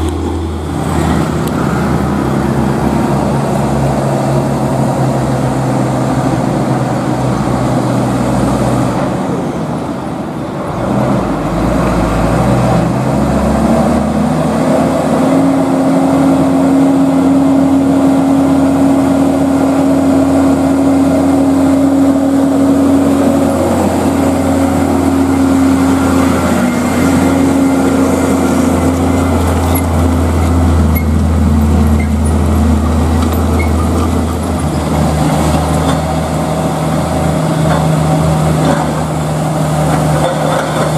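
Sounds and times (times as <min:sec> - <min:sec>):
diesel truck engine under load: 0:00.0 - 0:40.9.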